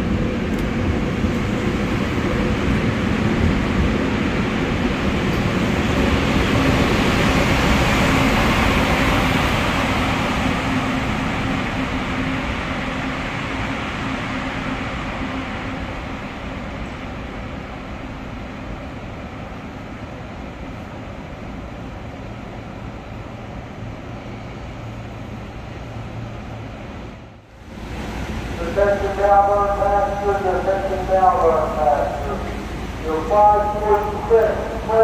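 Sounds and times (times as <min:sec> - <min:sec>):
train rumbling through station: 0:00.0 - 0:35.0.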